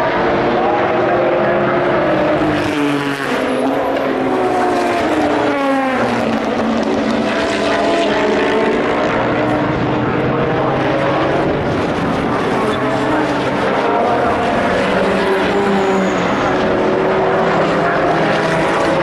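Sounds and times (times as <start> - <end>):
race cars passing: 0.0 - 19.0.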